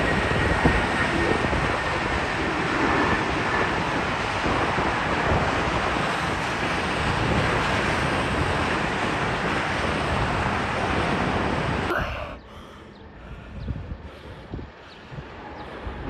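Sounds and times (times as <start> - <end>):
jet engines roaring: 0.0 - 16.0
wind on microphone: 0.0 - 16.0.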